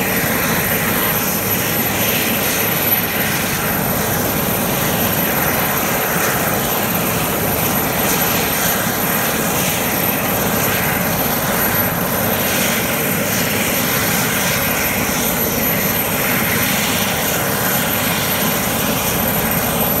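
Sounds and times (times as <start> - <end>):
helicopter idling: 0.0 - 20.0
high-pitched turbine whine: 0.0 - 20.0.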